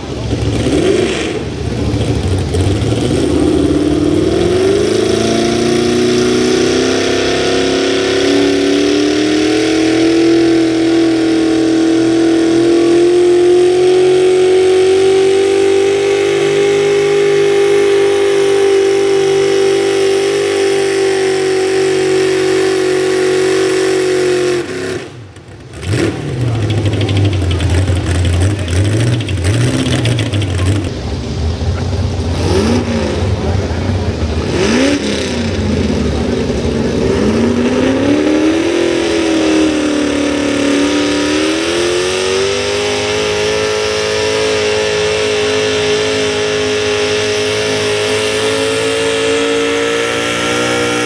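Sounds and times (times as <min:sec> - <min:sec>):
truck engine at full throttle: 0:00.0 - 0:51.0.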